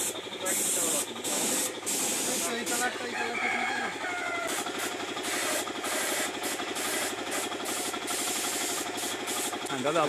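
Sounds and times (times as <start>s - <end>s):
paint spray gun hissing: 0.0s - 3.4s, 4.3s - 10.0s
air compressor chugging: 0.0s - 10.0s.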